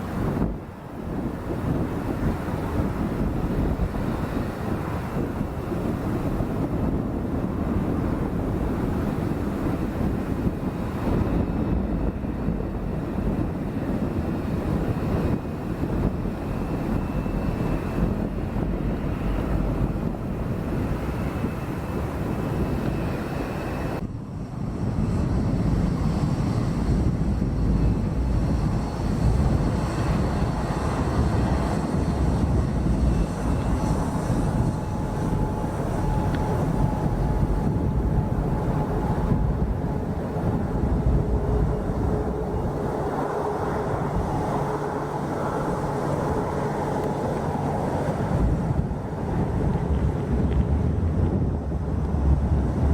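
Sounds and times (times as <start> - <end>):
jet engines rumbling: 0.0 - 52.9
wind buffeting microphone: 0.0 - 52.9.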